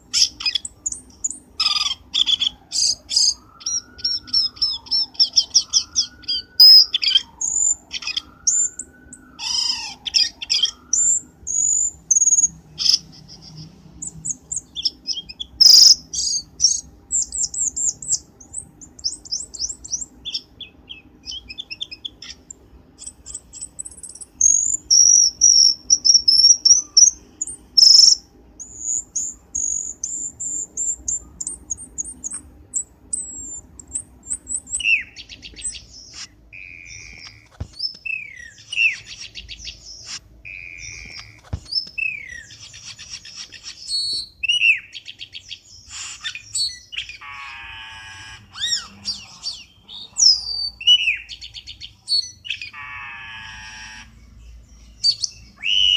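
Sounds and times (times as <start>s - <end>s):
low looping whistles: 0.0s - 42.6s, 46.3s - 55.9s
bird chirps and trills: 0.0s - 55.9s
sharp loud bird notes: 0.0s - 55.9s.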